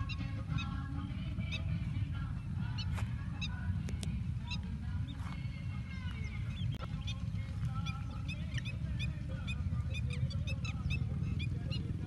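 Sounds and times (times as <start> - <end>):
birds calling: 0.0 - 12.0
steady low rumble: 0.0 - 12.0.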